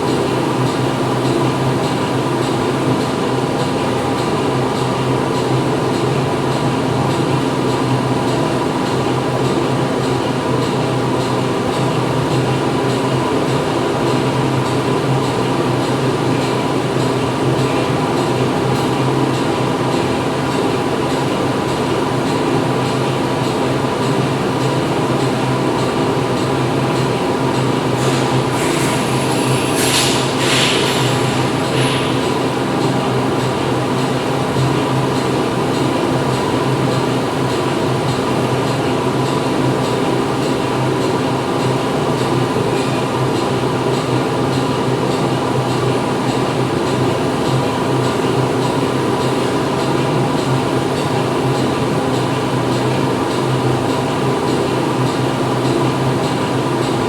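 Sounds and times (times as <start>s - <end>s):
factory machinery droning: 0.0s - 57.0s.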